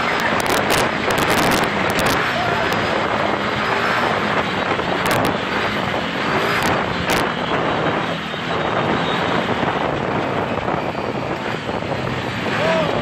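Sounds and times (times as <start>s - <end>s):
off-road vehicle engine running: 0.0s - 13.0s
wind buffeting microphone: 0.0s - 13.0s.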